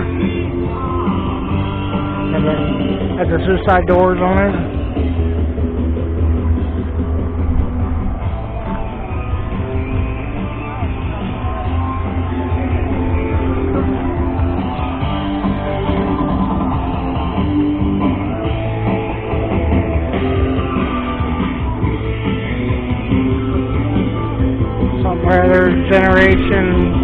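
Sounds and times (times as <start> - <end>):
guitar-led background music: 0.0 - 27.0
low bass line: 0.0 - 27.0.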